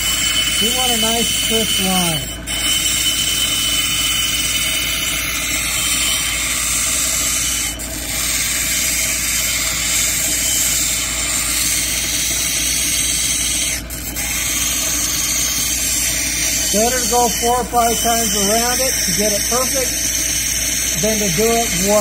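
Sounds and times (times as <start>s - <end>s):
machine motor hum: 0.0s - 22.0s
stone grinding on wheel: 0.0s - 22.0s.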